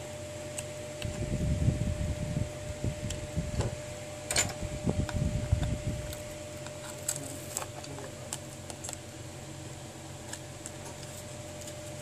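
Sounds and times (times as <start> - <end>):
faint steady hum tone: 0.0 - 12.0.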